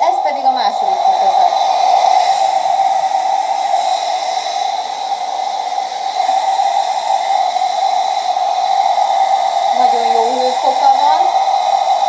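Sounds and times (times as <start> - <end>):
hair dryer air rush: 0.0 - 12.0
motor high whine: 0.0 - 12.0.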